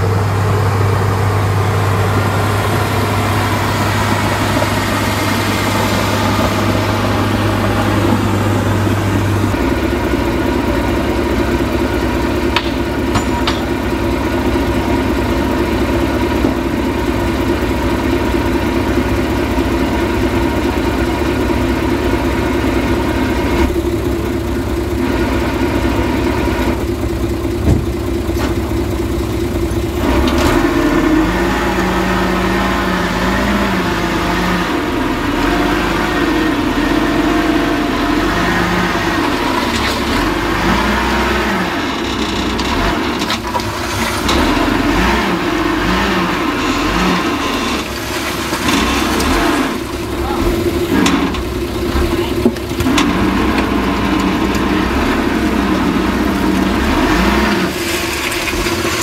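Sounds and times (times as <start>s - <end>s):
heavy machinery diesel engine running: 0.0s - 59.0s.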